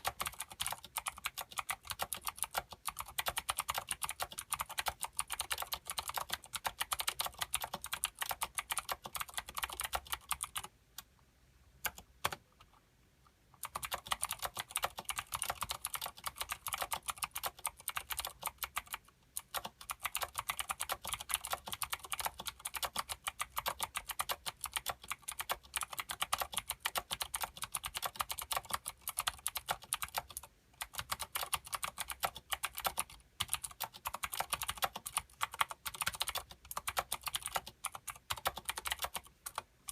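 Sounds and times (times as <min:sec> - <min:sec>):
fast mechanical keyboard typing: 0:00.0 - 0:10.7, 0:11.8 - 0:12.4, 0:13.6 - 0:39.9.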